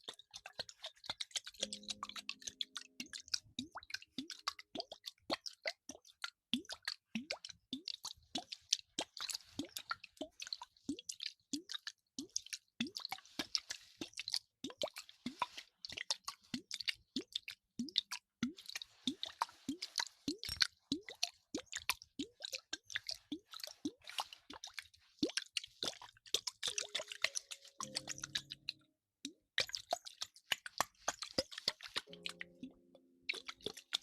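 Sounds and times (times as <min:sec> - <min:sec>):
quick wet plops: 0:00.0 - 0:34.0.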